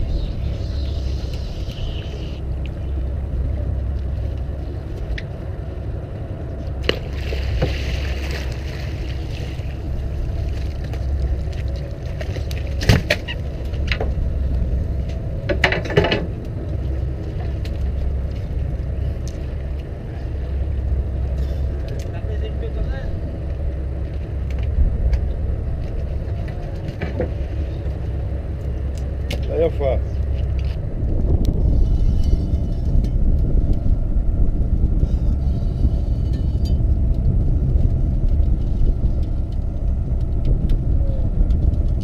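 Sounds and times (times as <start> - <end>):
boat engine rumbling: 0.0 - 42.0.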